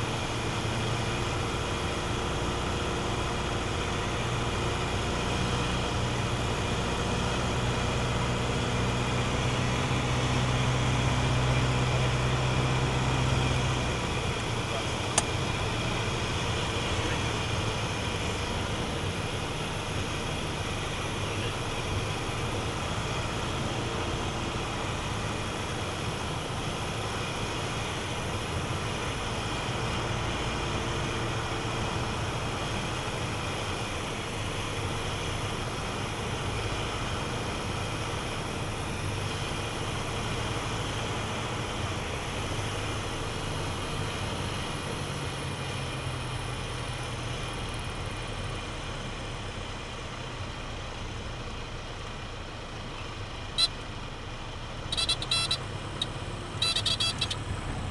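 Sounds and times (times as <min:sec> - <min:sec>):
aircraft engine and propeller drone: 0:00.0 - 0:57.9.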